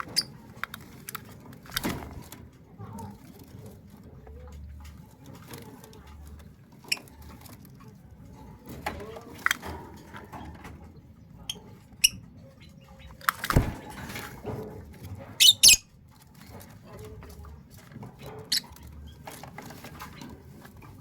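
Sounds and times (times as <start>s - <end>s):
bird moving in cage: 0.0s - 12.4s, 13.1s - 21.0s.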